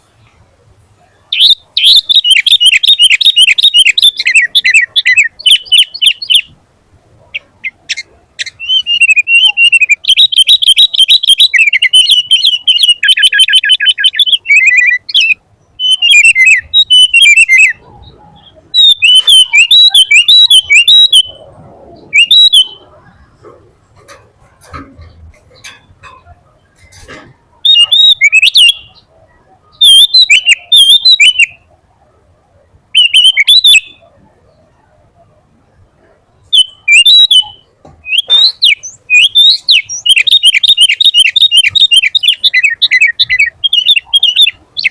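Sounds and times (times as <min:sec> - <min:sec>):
bulbul singing: 0:01.0 - 0:06.6, 0:07.2 - 0:31.8, 0:32.9 - 0:35.0, 0:36.0 - 0:44.9.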